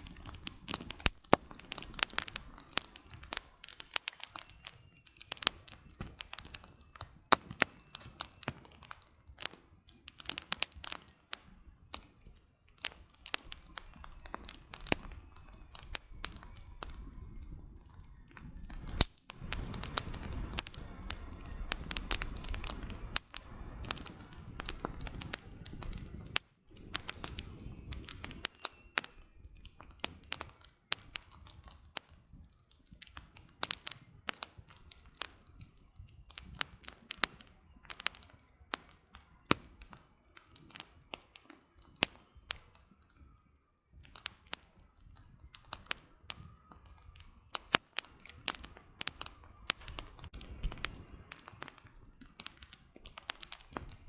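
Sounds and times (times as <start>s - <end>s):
campfire crackling: 0.0s - 54.0s
low rumble of flames: 0.0s - 54.0s.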